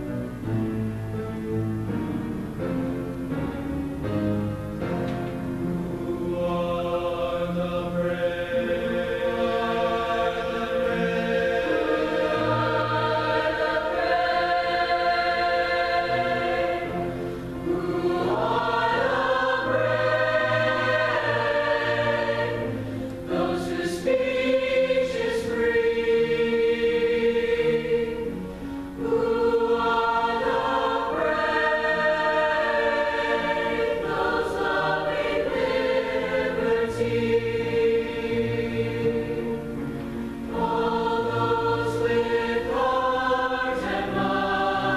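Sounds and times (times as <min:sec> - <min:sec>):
choir singing: 0:04.0 - 0:44.9.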